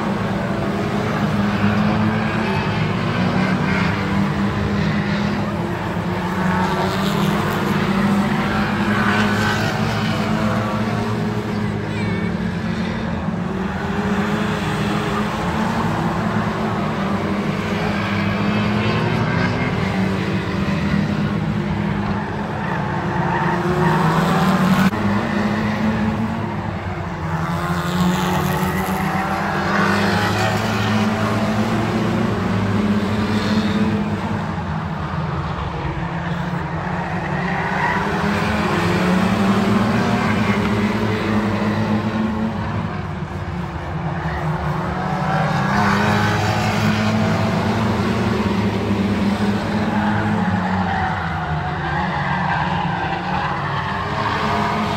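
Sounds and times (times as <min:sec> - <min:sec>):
race car engines at full throttle: 0:00.0 - 0:54.9.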